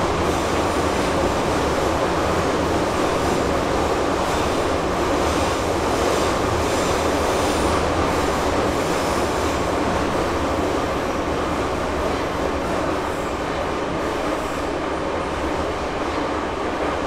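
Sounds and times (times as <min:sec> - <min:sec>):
metro train rumbling in tunnel: 0:00.0 - 0:17.0.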